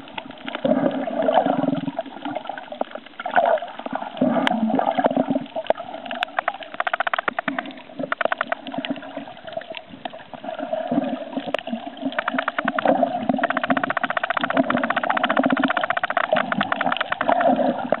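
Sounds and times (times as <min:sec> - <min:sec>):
underwater crackling clicks: 0:00.0 - 0:10.2, 0:11.4 - 0:18.0
underwater water wash: 0:00.0 - 0:18.0.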